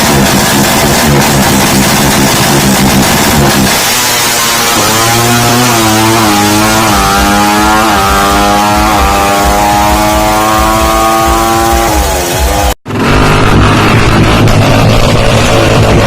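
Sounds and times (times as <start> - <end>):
motorcycle engine accelerating hard: 0.0 - 16.0.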